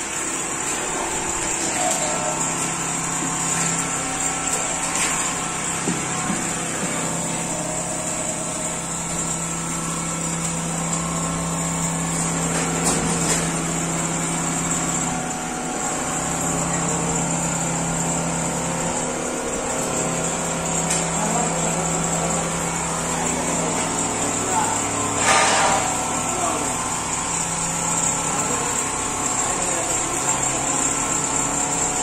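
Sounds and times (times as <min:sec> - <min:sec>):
quilting machine humming: 0:00.0 - 0:32.0.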